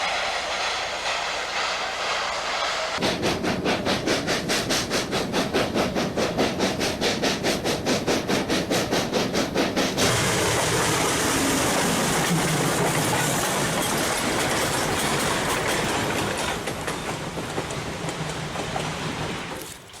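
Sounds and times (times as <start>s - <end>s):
steady rushing noise: 0.0s - 16.8s
train running: 0.0s - 20.0s.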